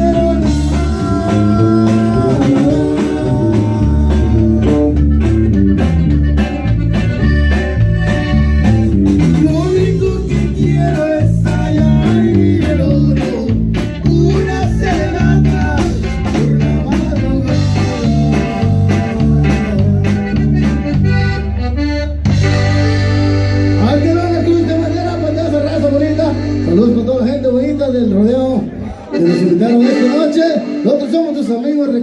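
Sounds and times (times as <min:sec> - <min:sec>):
bouncing bass line: 0:00.0 - 0:30.1
plucked guitar: 0:00.0 - 0:31.4
accordion: 0:00.0 - 0:32.0.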